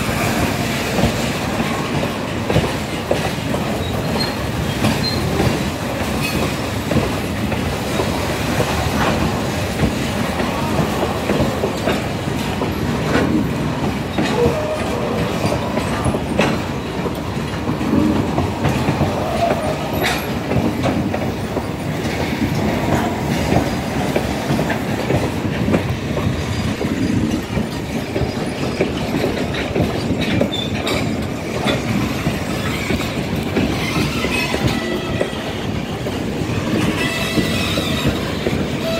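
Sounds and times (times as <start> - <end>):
steel wheels rumbling: 0.0 - 38.9
wheels clacking over rail joints: 0.0 - 38.9.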